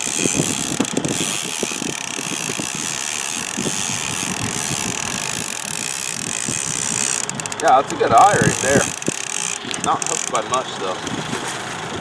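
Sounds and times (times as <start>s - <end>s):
boat motor running: 0.0s - 12.0s
wind noise on microphone: 0.0s - 12.0s.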